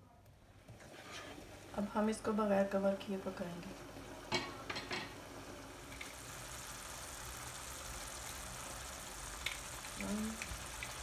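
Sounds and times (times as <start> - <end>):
curry sizzling in a pan: 0.7 - 11.0.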